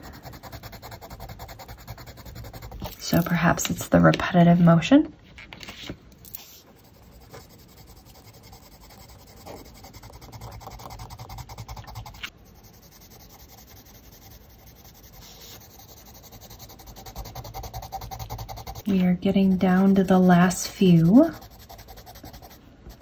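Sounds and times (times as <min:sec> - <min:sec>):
colored pencil scratching on paper: 0:00.0 - 0:04.8, 0:05.7 - 0:23.0.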